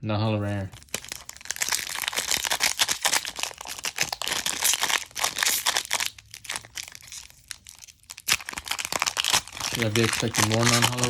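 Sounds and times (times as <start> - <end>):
foil wrapper crinkling: 0.7 - 11.0.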